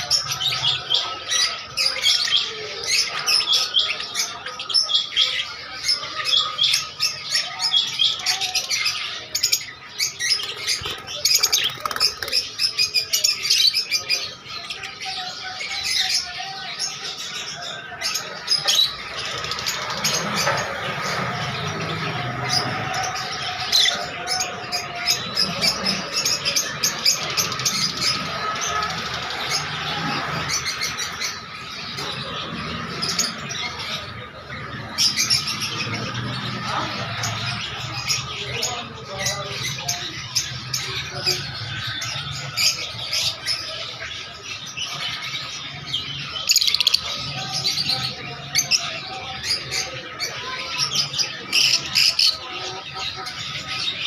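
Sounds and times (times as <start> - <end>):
caged birds chirping and squawking: 0.0 - 54.0.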